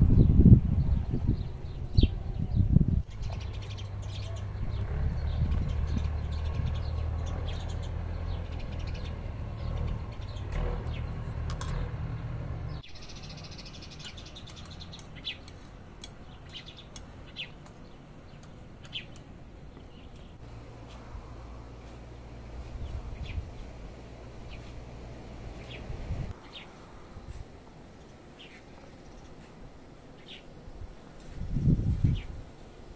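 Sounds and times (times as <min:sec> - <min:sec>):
small birds chirping: 0:00.1 - 0:32.4.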